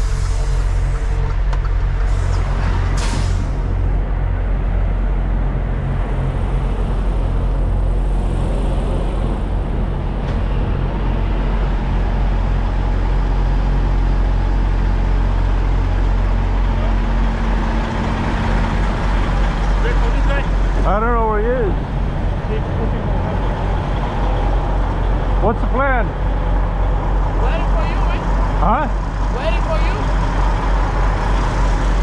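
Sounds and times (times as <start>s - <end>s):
diesel truck engines idling: 0.0s - 32.0s.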